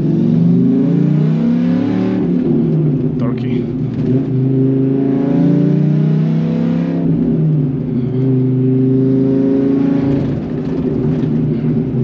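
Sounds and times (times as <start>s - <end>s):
truck engine accelerating hard: 0.0s - 12.0s.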